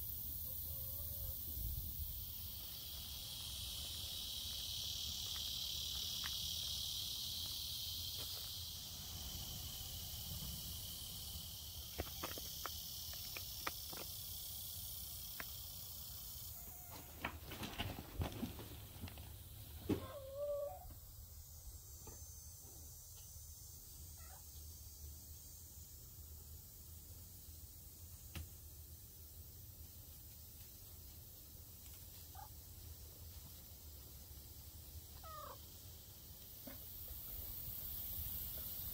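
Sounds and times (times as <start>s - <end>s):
droning chorus of insects: 0.0s - 38.9s.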